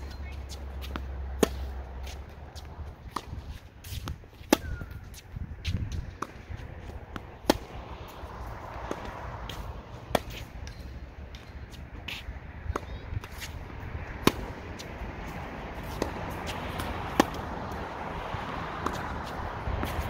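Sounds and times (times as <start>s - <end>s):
tennis balls struck by rackets: 0.0s - 20.0s.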